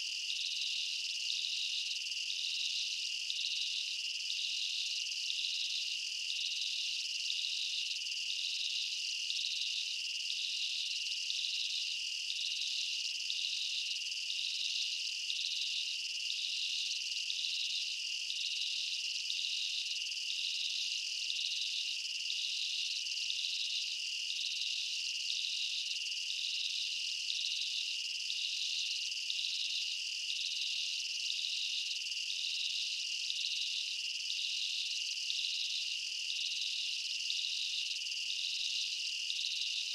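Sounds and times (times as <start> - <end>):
insect chorus trilling: 0.3 - 39.9.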